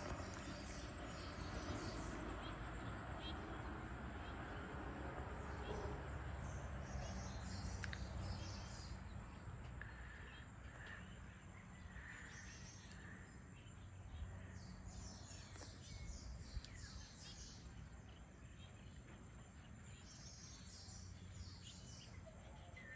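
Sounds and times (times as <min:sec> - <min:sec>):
birds chirping: 0:00.0 - 0:04.7, 0:05.3 - 0:22.9.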